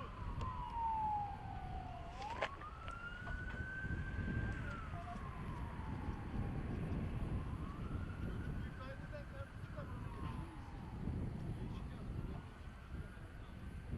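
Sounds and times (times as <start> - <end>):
emergency siren wailing: 0.0 - 13.9.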